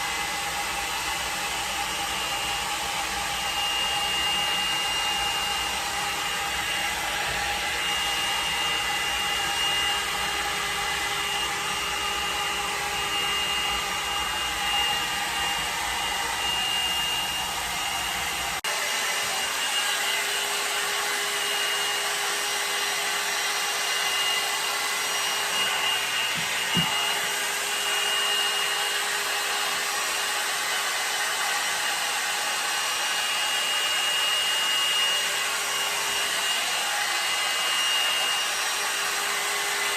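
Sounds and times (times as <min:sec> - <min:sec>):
hair dryer brush whine: 0:00.0 - 0:39.9.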